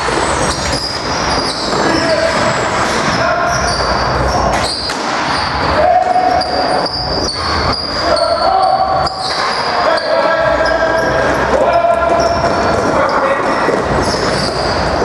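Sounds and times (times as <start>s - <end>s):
players calling out: 0.0s - 15.0s
shoes squeaking on floor: 0.0s - 15.0s.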